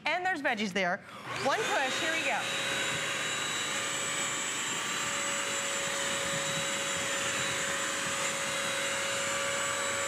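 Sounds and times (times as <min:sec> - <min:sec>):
wet vacuum running: 0:01.2 - 0:10.0.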